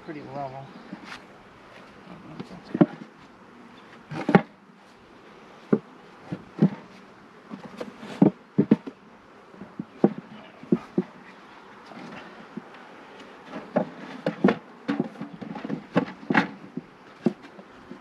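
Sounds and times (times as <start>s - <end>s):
bees buzzing faintly: 0.0s - 18.0s
wooden knocks and clunks: 1.8s - 4.6s, 5.6s - 9.0s, 9.6s - 18.0s.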